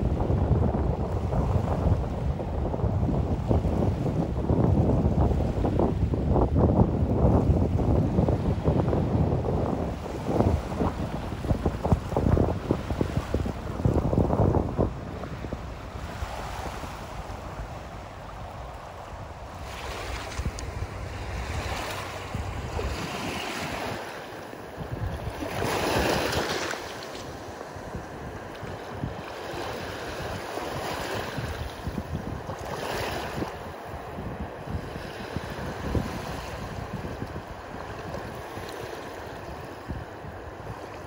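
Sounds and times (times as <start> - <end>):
small waves breaking on sandy shore: 0.0 - 41.0
wind rumbling on microphone: 0.0 - 41.0.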